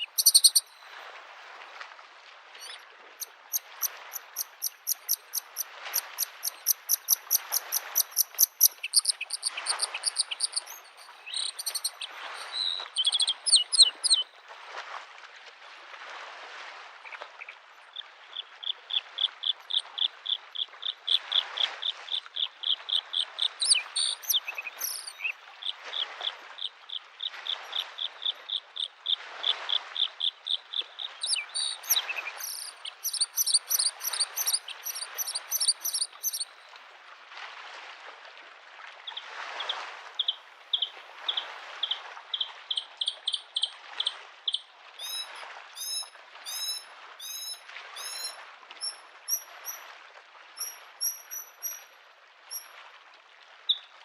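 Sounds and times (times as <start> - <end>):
small waves washing on shore: 0.0 - 54.0.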